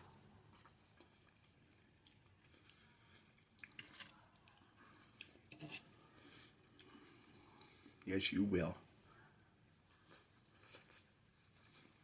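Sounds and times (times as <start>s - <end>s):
soft chewing and mouth sounds: 0.0s - 12.0s.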